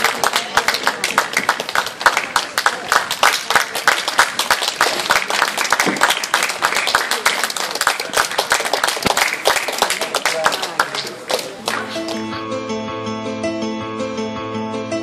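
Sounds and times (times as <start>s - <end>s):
people clapping: 0.0s - 12.3s.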